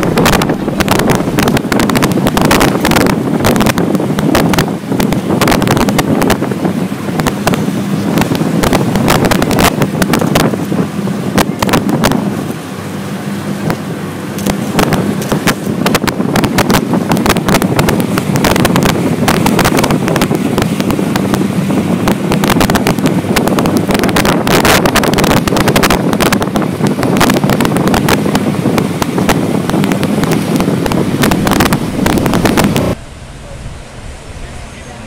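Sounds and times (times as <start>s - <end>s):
boat engine droning: 0.0s - 35.0s
wind buffeting microphone: 0.0s - 35.0s.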